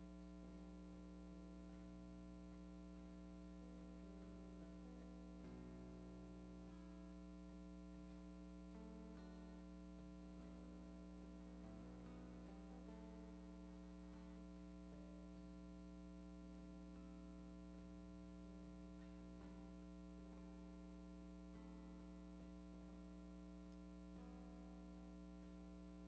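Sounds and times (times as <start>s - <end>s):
electrical mains hum: 0.0s - 26.0s
faint music: 0.0s - 26.0s.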